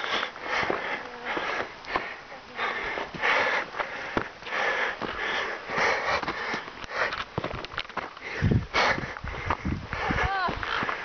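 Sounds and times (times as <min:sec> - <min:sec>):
footsteps crunching on dirt: 0:00.0 - 0:11.0
person breathing hard: 0:00.0 - 0:11.0.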